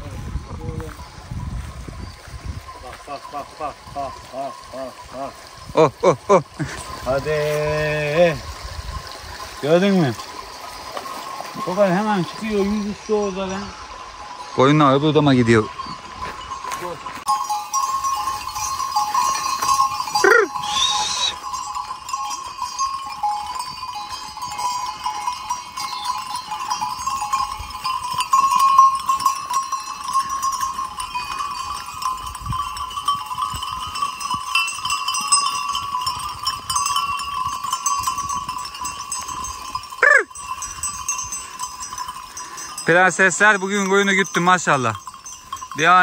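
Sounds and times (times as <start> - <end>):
sheep bells clanking: 0.0 - 46.0.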